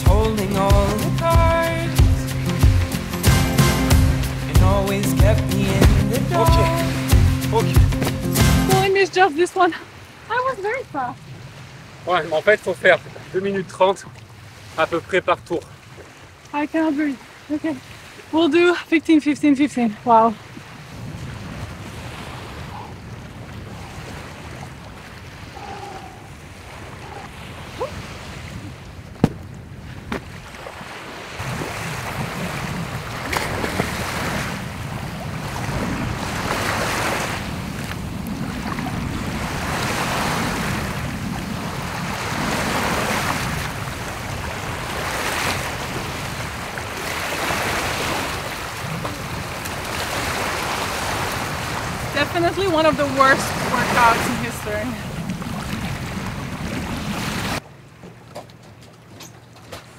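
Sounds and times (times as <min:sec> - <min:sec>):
small waves washing onto beach: 0:00.0 - 0:57.7.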